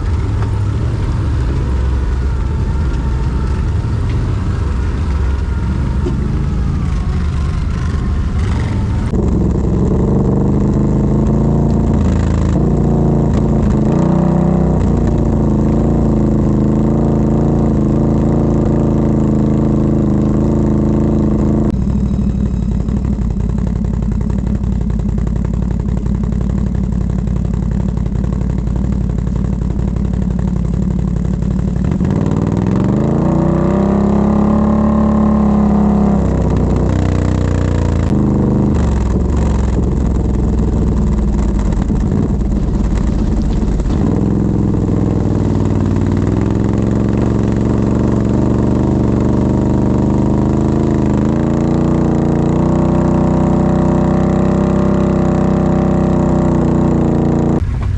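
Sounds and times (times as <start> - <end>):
quad bike engine revving: 0.0 - 57.9.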